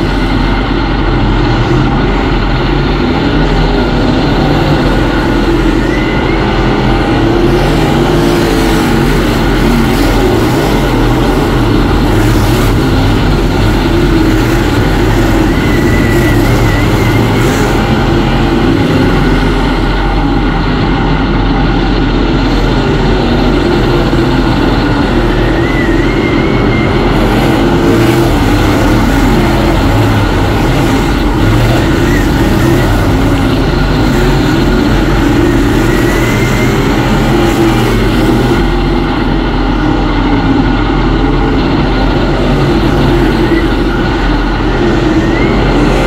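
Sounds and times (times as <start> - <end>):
race car engine droning: 0.0 - 46.0.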